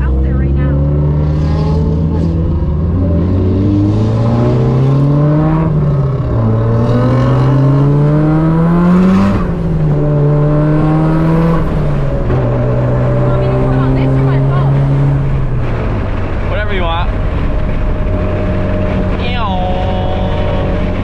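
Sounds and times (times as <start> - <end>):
car engine shifting gears: 0.0 - 21.0.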